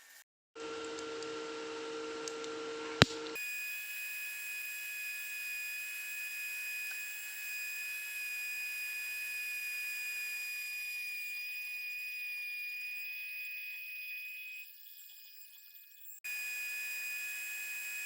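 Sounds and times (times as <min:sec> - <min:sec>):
rotary tool whining: 0:00.6 - 0:18.0.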